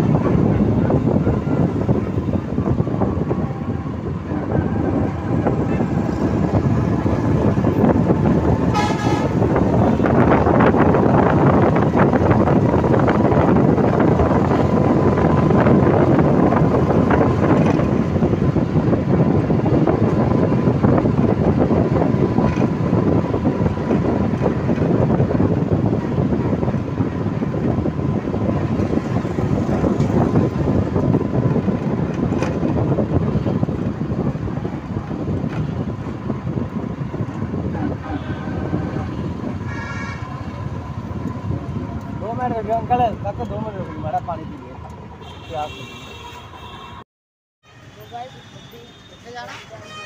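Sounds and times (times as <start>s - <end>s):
auto-rickshaw engine running: 0.0s - 45.9s
wind rushing over microphone: 0.0s - 47.0s
road noise: 0.0s - 50.0s.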